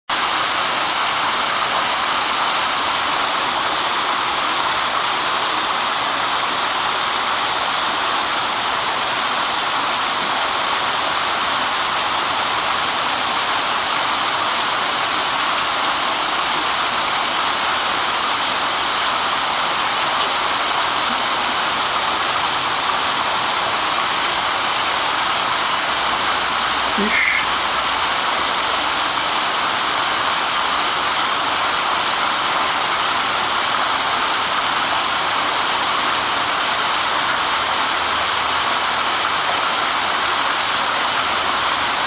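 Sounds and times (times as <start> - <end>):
waterfall splashing over rocks: 0.1 - 42.0.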